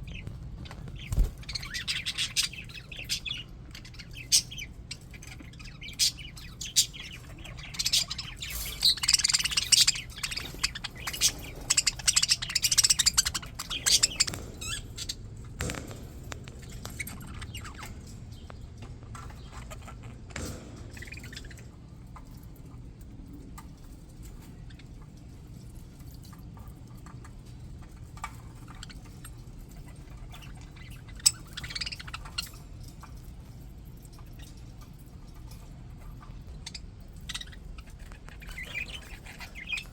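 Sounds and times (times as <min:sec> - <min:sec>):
budgies chattering and chirping: 0:00.0 - 0:39.9
steady low hum: 0:00.0 - 0:39.9.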